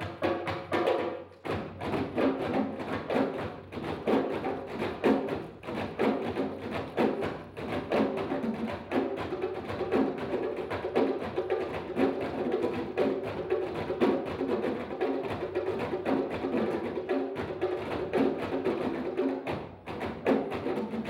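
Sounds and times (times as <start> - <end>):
hand drums playing: 0.0 - 21.0.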